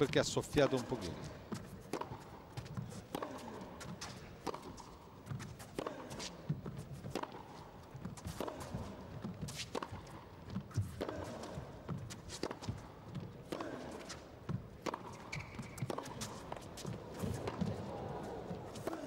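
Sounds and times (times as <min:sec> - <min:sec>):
footsteps on court: 0:00.0 - 0:19.0
tennis ball bouncing: 0:00.7 - 0:19.0
tennis racket hitting ball: 0:00.7 - 0:19.0.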